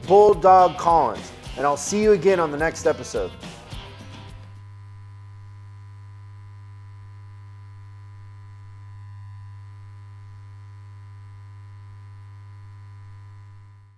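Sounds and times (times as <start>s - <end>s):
neon sign buzzing: 0.0s - 13.9s.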